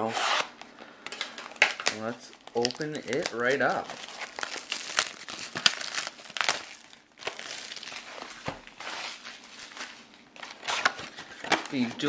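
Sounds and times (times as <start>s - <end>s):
plastic shrink-wrap crinkling: 1.1s - 12.0s.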